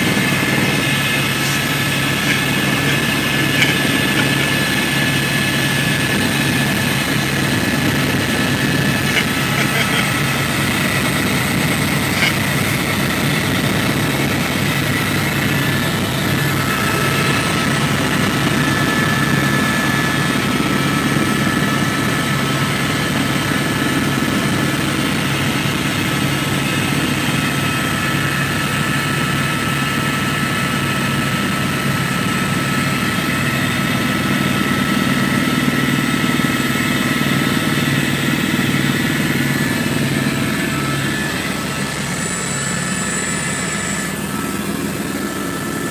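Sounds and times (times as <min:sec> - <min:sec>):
helicopter engine and rotors: 0:00.0 - 0:45.9.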